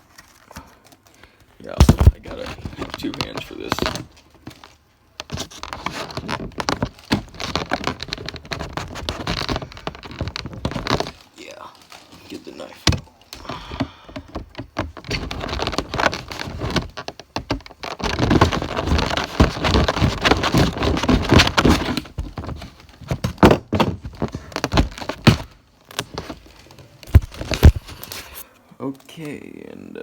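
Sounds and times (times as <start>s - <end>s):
packaging scraping and rustling: 0.0s - 28.5s.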